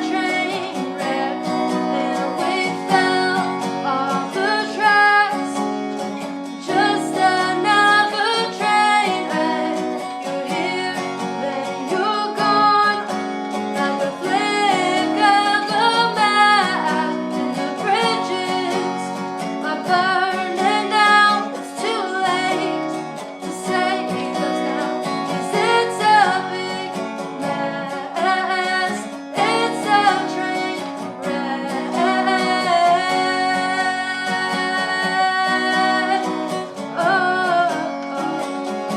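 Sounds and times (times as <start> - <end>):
person singing: 0.0 - 38.9
strummed acoustic guitar: 0.0 - 38.9.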